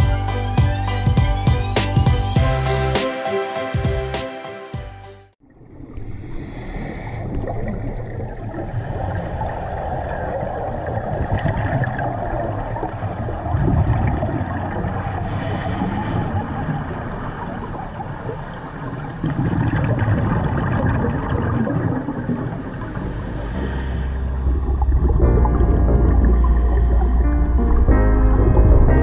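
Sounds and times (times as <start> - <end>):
muffled underwater rumble: 5.5 - 29.0.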